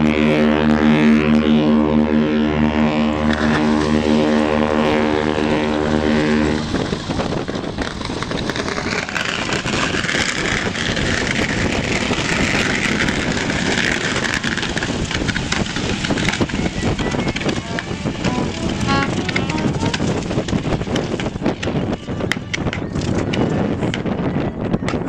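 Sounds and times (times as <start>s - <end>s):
deep fog horn blast: 0.0s - 24.3s
steady rushing noise: 0.0s - 25.0s.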